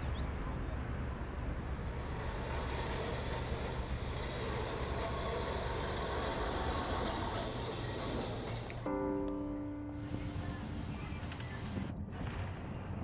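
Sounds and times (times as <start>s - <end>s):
electric tram rumbling on rails: 0.0s - 12.4s
faint tram whine: 0.0s - 13.0s.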